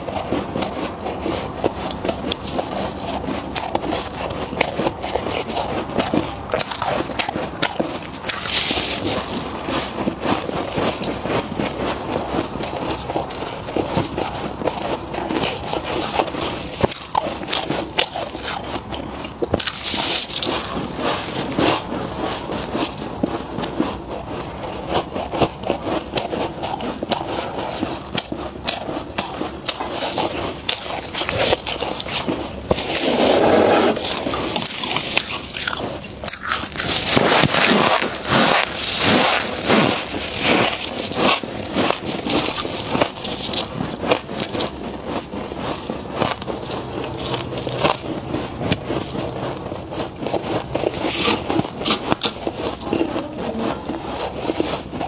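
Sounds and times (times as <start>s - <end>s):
gloved hands scraping frost: 0.0s - 55.0s
person chewing frost: 0.0s - 55.0s.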